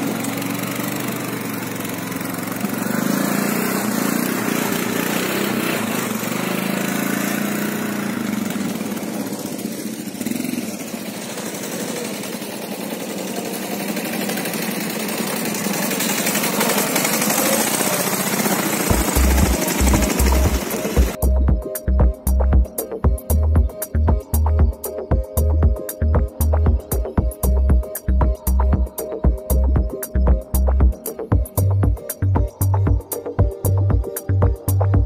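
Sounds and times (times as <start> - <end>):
motorcycle engine: 0.0 - 35.0
quad bike engine: 0.0 - 35.0.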